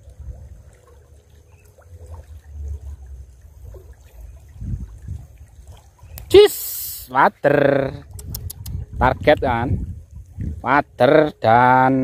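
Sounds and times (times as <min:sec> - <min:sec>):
water trickling in a ditch: 0:00.0 - 0:12.0.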